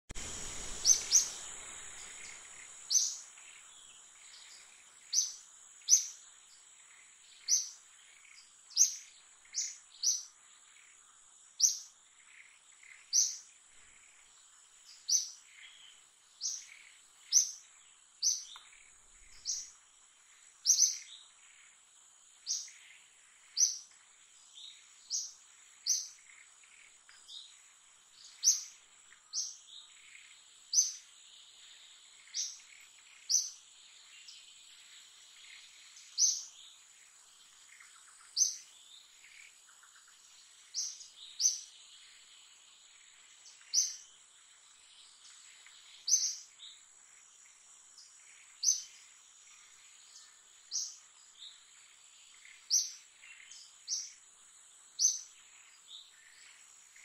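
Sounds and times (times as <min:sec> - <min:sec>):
bird chirping: 0:00.1 - 0:57.0.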